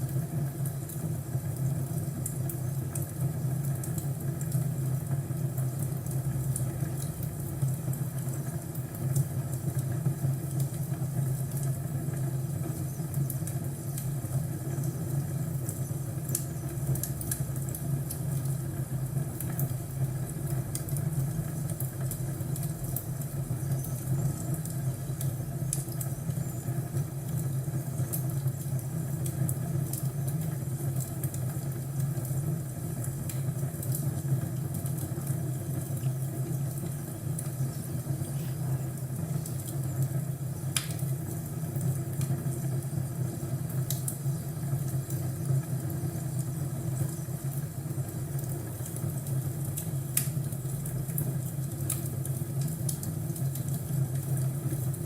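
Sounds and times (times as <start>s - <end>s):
fireplace crackling: 0.1s - 55.0s.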